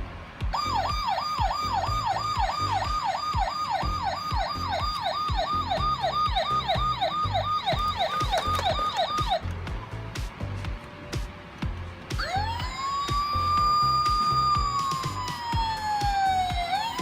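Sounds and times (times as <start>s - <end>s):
background music with steady beat: 0.0s - 17.0s
electronic police siren: 0.5s - 9.4s, 12.2s - 17.0s.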